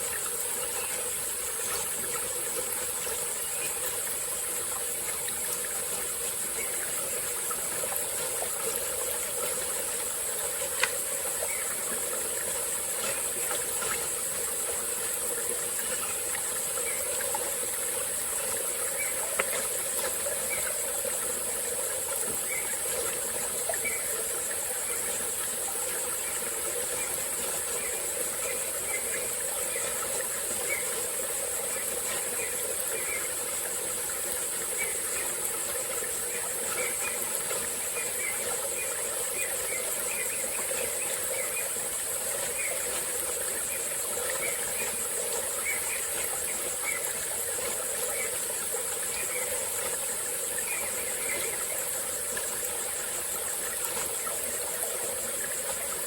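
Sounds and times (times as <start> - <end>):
insect chorus: 0.0 - 56.0
stream trickling: 0.0 - 56.0.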